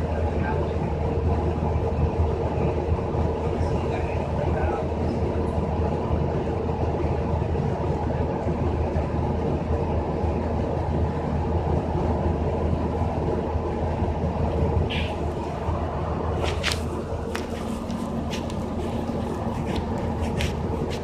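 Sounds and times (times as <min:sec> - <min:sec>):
bus interior rumble: 0:00.0 - 0:21.0.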